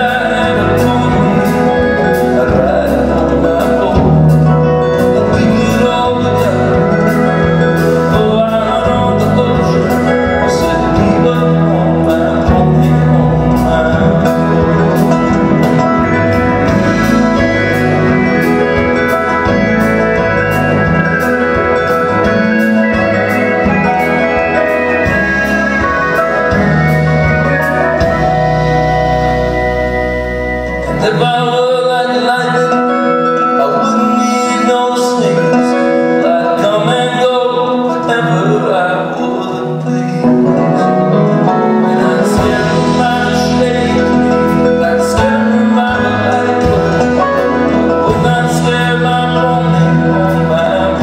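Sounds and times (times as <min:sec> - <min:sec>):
live country-folk band playing: 0:00.0 - 0:51.0.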